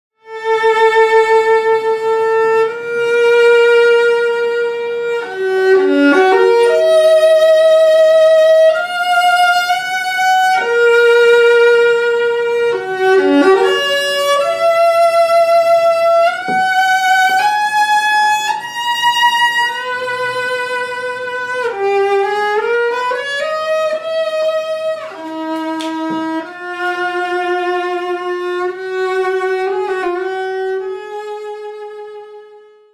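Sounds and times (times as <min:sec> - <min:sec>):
solo viola melody: 0:00.2 - 0:32.9.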